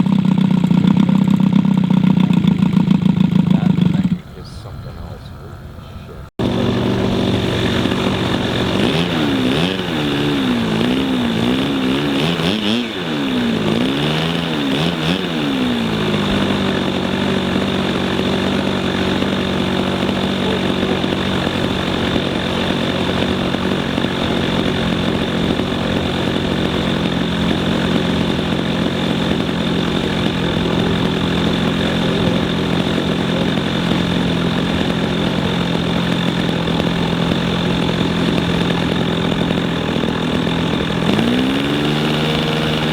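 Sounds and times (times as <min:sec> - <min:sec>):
model airplane engine running: 0:00.0 - 0:42.9.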